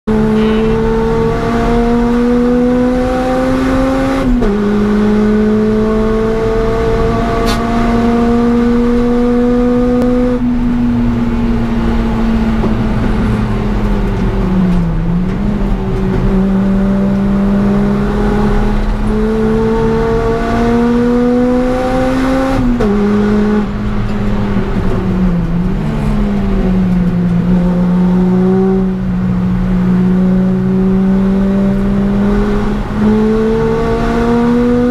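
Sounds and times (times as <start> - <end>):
car engine revving under load: 0.1 - 34.9.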